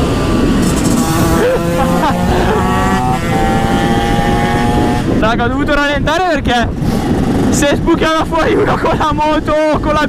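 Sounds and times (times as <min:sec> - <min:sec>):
two-stroke motorcycle engine running: 0:00.0 - 0:05.4, 0:06.6 - 0:10.0
wind noise on microphone: 0:00.0 - 0:10.0.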